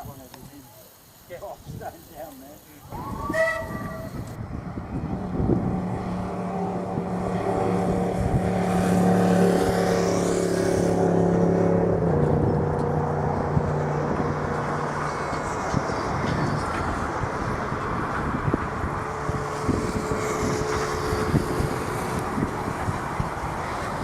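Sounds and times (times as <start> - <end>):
vehicle engine humming: 2.9 - 24.0.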